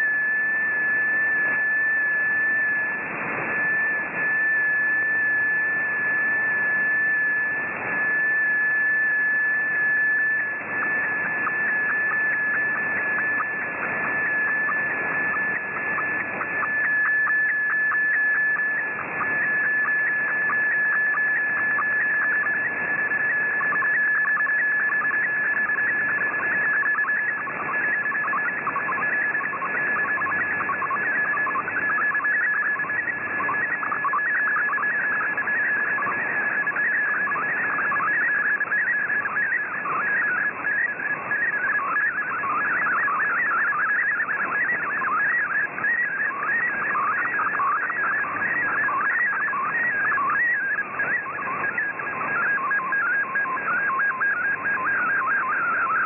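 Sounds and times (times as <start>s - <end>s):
radio hiss and static: 0.0s - 56.0s
steady data tone: 0.0s - 56.0s.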